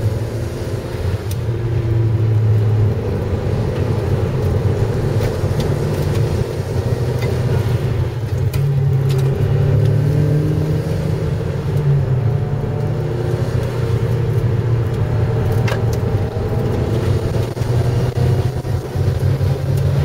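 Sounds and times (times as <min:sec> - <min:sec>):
car engine running inside cabin: 0:00.0 - 0:20.0
road noise: 0:00.0 - 0:20.0.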